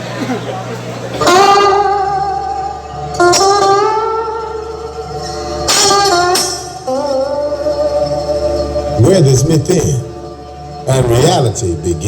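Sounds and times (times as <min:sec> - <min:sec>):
loud music over sound system: 0:01.2 - 0:12.0.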